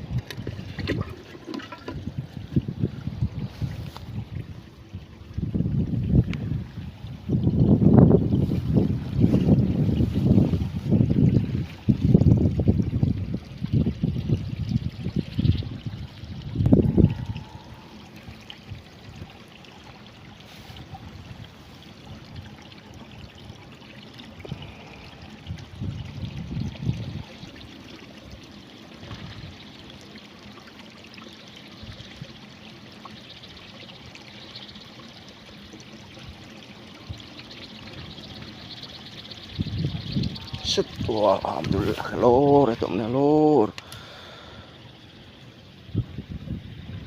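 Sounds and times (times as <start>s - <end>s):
water flowing in channel: 0.0s - 47.0s.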